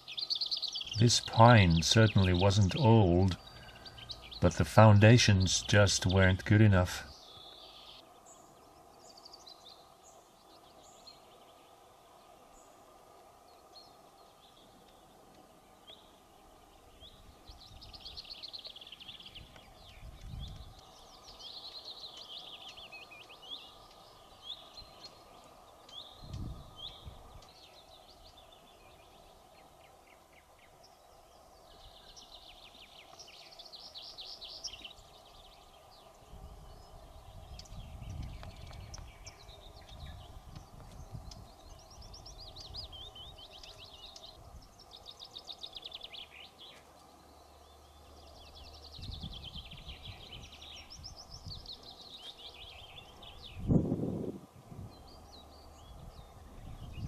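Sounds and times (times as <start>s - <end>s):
songbirds singing trilled phrases: 0.0s - 12.8s, 13.4s - 57.0s
faint background noise: 0.0s - 57.0s.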